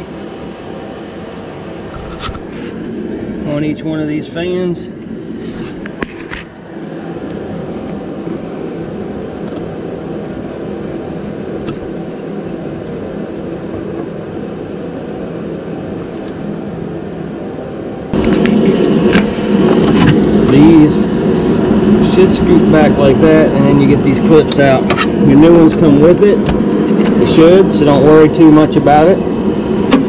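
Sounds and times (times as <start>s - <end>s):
machine drone: 0.0s - 30.0s.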